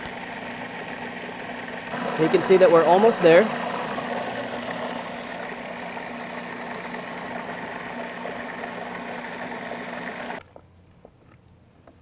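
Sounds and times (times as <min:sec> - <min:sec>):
food processor motor running: 0:00.0 - 0:10.4.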